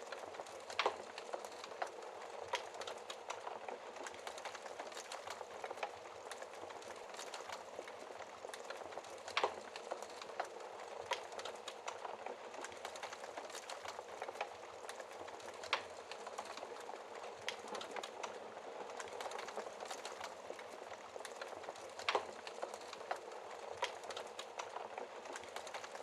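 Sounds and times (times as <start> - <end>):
fire crackling in fireplace: 0.0 - 26.0.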